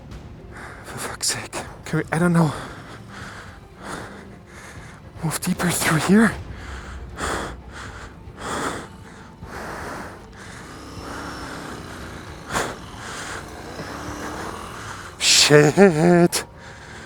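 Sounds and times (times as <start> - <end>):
man breathing hard: 0.4 - 17.0
motorcycle engine idling: 1.7 - 5.3, 5.9 - 17.0.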